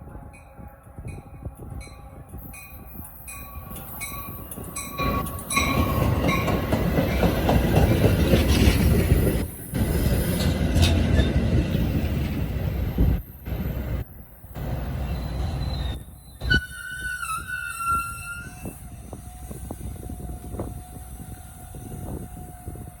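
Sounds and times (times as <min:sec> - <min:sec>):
train rumbling and rattling: 0:00.0 - 0:23.0.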